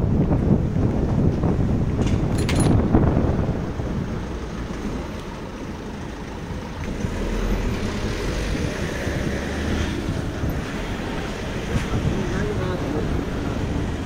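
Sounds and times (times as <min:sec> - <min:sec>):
wind on microphone: 0:00.0 - 0:05.1, 0:06.5 - 0:14.0
bicycle road noise: 0:00.0 - 0:14.0.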